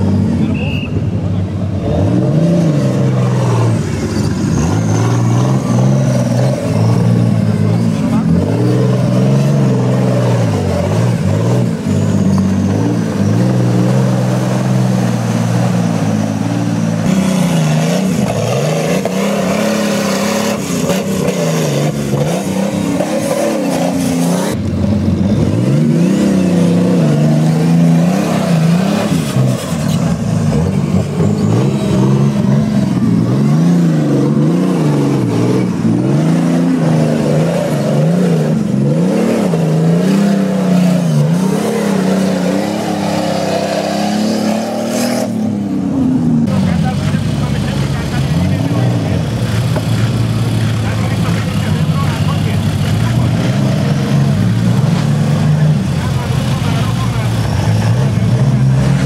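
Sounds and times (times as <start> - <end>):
off-road engine revving: 0.0 - 59.0.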